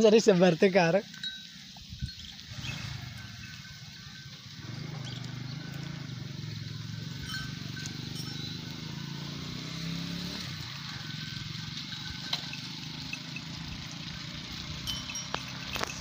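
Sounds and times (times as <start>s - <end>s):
low engine hum: 1.8s - 16.0s.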